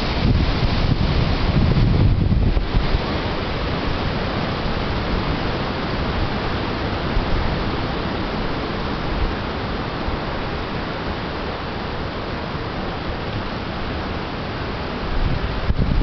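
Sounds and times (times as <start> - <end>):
wind buffeting microphone: 0.0 - 12.4, 14.7 - 16.0
ocean surf rushing: 0.0 - 16.0.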